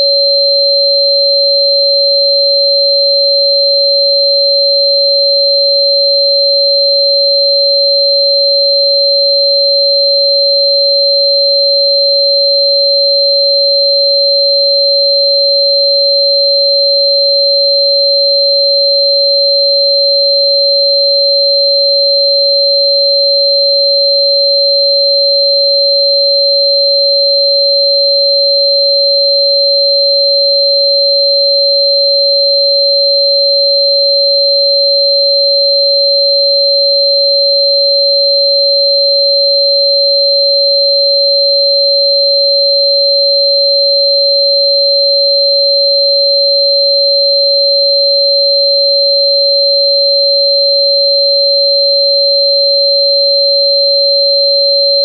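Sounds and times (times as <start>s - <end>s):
high sine tone: 0.0s - 46.9s
mid-pitched sine tone: 0.0s - 55.0s.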